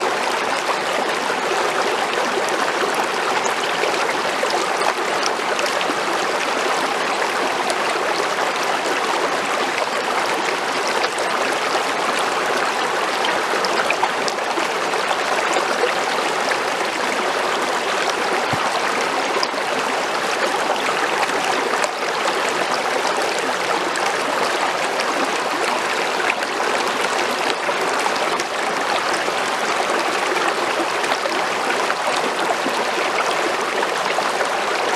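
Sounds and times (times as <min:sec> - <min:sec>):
creek water flowing over rocks: 0:00.0 - 0:34.9.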